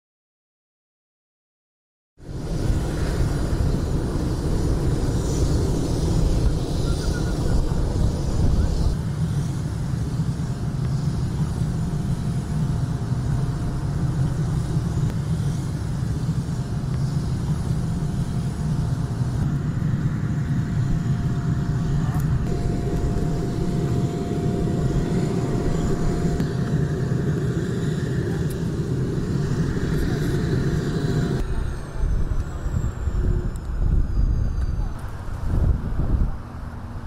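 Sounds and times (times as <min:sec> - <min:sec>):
faint steady whine: 0:02.2 - 0:37.0
jet engines rumbling: 0:02.2 - 0:37.0.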